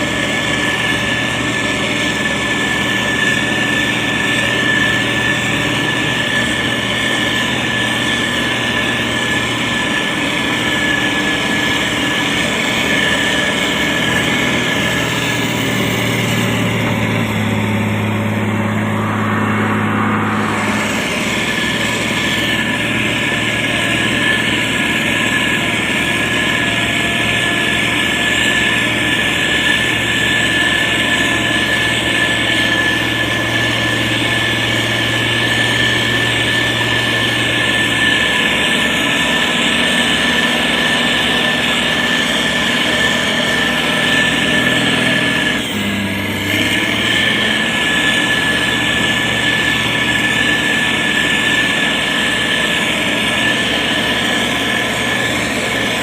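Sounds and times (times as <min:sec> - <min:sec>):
diesel engine running: 0:00.0 - 0:56.0
high whine: 0:00.0 - 0:56.0.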